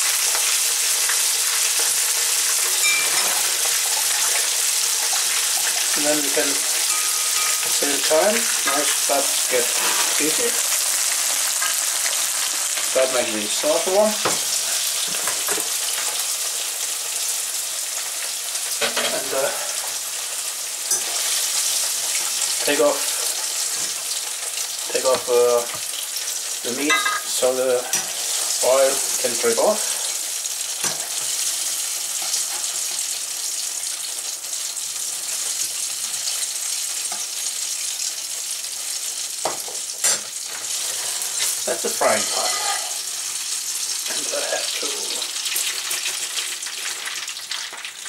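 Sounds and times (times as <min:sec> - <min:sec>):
chicken sizzling in hot oil: 0:00.0 - 0:48.0.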